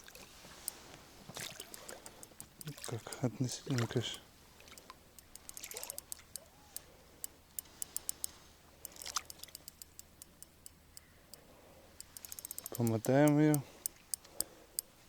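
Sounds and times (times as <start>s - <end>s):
fishing reel clicking: 1.4s - 15.0s.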